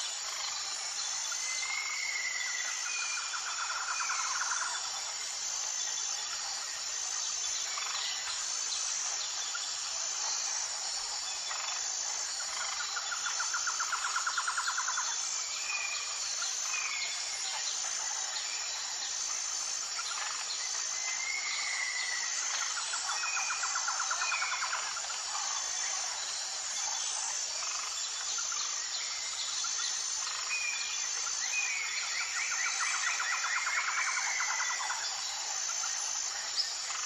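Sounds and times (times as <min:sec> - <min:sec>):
high-pitched insect drone: 0:00.0 - 0:37.0
pulsing insect chirp: 0:00.0 - 0:37.0.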